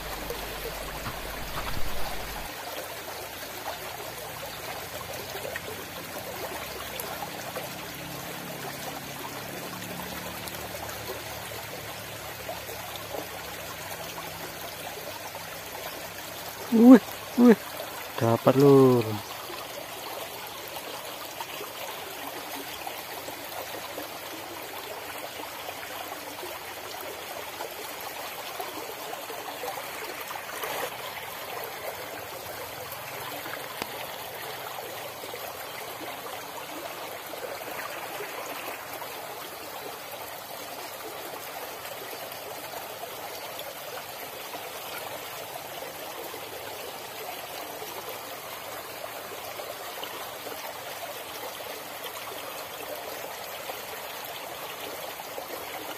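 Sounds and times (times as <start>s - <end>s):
stream burbling over stones: 0.0s - 55.9s.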